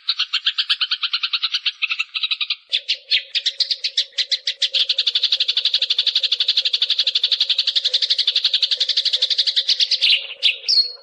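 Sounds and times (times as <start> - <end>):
sparrow chirping trill: 0.0 - 11.0.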